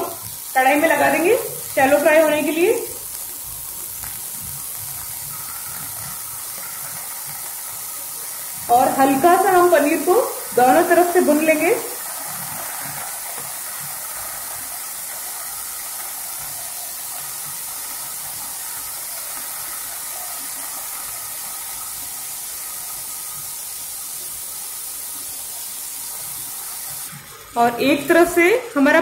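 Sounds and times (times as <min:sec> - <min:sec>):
cheese sizzling in oil: 0:00.0 - 0:29.0.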